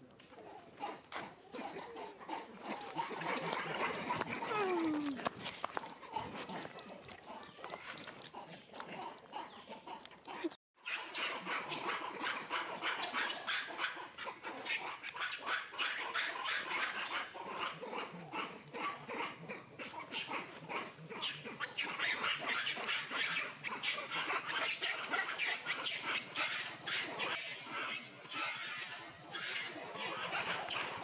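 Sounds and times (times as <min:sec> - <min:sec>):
macaques calling: 0:00.2 - 0:05.4, 0:06.0 - 0:31.0.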